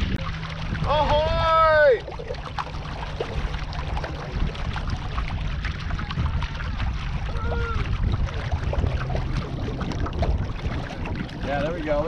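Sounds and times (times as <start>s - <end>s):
water splashing against canoe hull: 0.0s - 12.0s
wind rumble on microphone: 0.0s - 12.0s.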